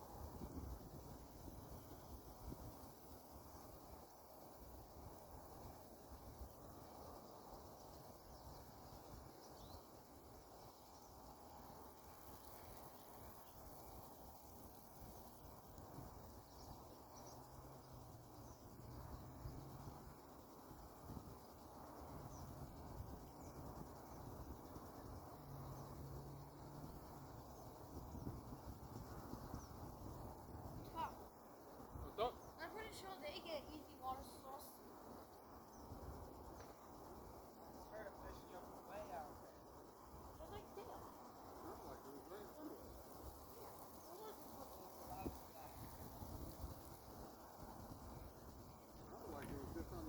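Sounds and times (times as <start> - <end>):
faint outdoor background noise: 0.0 - 50.0.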